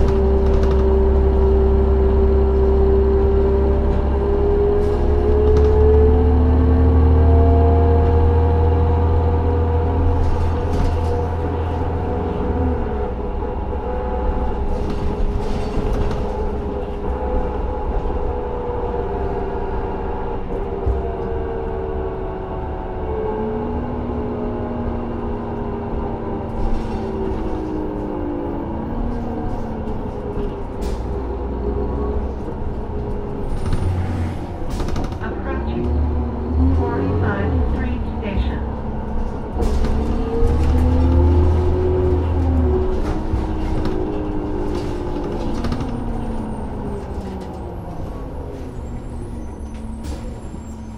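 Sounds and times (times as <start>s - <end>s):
bus engine running: 0.0s - 50.9s.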